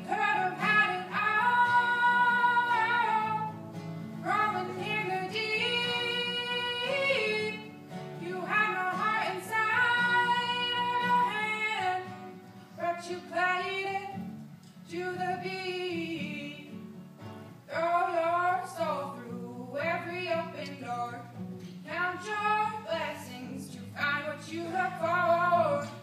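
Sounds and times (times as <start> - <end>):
woman singing: 0.0 - 16.9, 17.7 - 26.0
acoustic guitar: 0.0 - 26.0.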